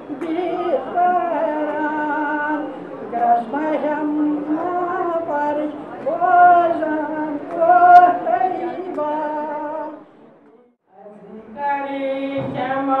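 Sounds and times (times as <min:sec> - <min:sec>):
elderly woman singing: 0:00.0 - 0:10.0, 0:10.9 - 0:13.0.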